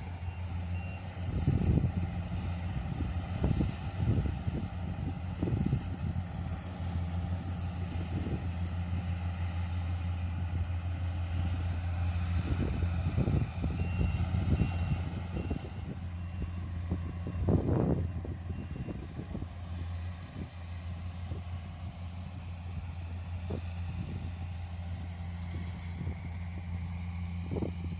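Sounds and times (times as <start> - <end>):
diesel engine humming: 0.0 - 27.9.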